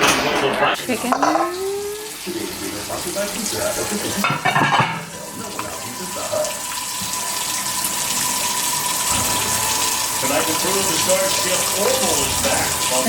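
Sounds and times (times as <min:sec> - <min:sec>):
faucet water splashing into sink: 0:00.0 - 0:13.0.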